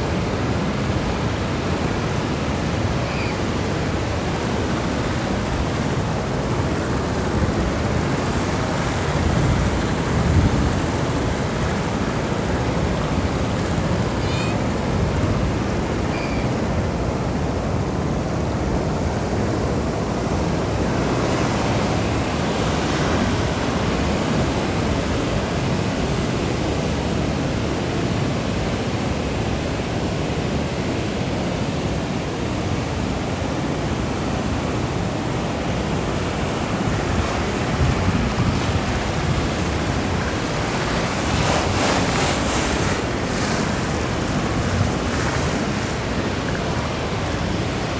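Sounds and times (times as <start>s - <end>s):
ocean waves breaking on shore: 0.0s - 47.9s.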